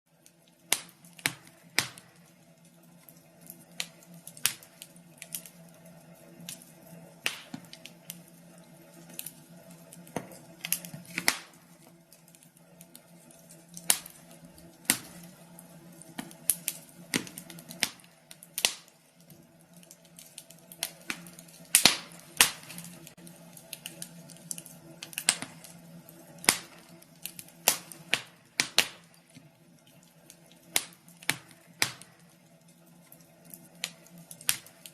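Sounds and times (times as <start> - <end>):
fire pops and snaps: 0.1 - 34.9
wood fire crackling: 0.1 - 34.9.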